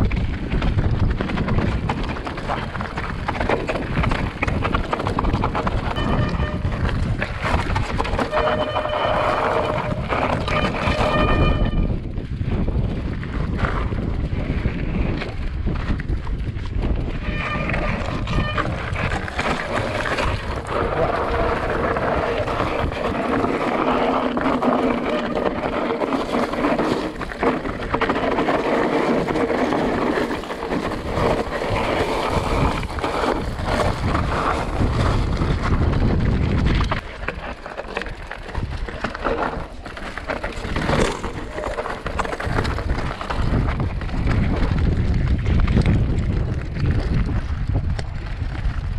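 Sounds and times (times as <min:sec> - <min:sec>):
steady rushing noise: 0:00.0 - 0:48.9
wind buffeting microphone: 0:00.0 - 0:48.9.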